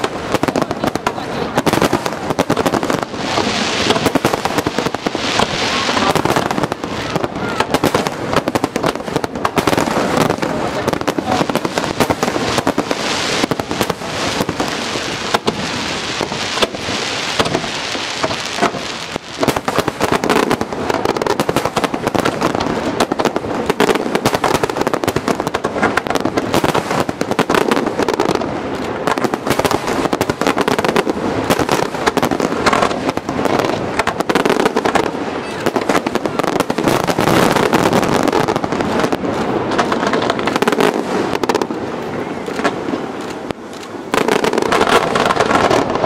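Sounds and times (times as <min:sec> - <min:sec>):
fireworks bursting with bangs and crackling: 0:00.0 - 0:46.0.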